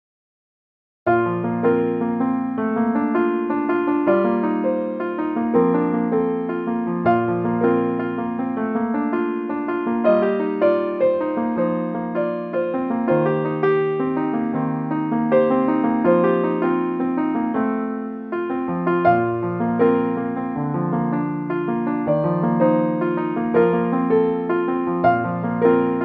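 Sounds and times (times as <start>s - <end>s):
piano music: 1.1s - 26.0s.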